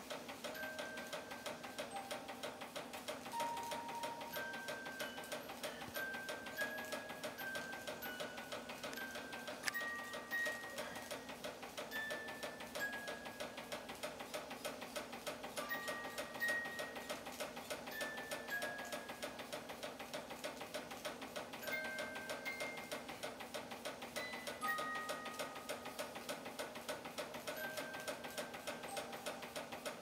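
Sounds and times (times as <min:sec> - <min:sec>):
toy steam engine ticking: 0:00.0 - 0:30.0.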